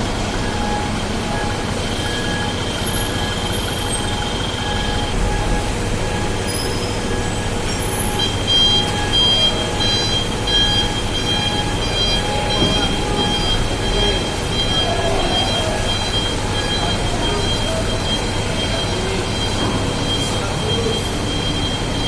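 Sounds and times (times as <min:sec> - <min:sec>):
diesel trucks rumbling: 0:00.0 - 0:22.0
reversing alarm beeps: 0:00.0 - 0:22.0.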